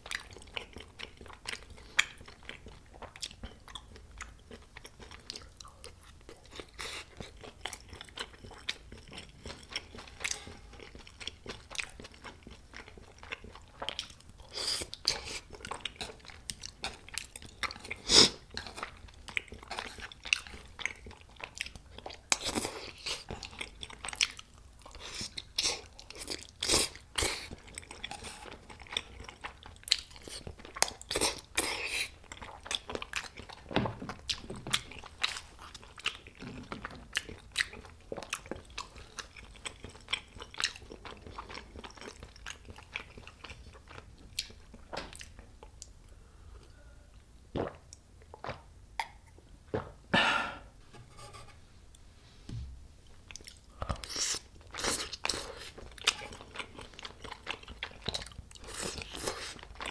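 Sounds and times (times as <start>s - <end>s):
person chewing food: 0.0s - 49.5s, 53.1s - 59.9s.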